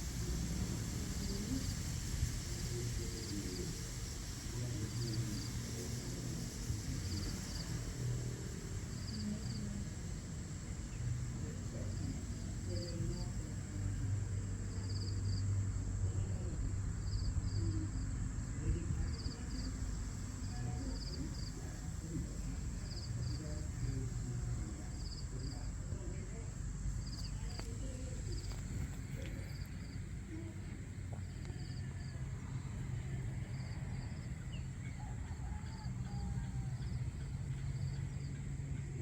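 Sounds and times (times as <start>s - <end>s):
crickets chirping: 0.0s - 39.0s
steady high hum: 0.0s - 39.0s.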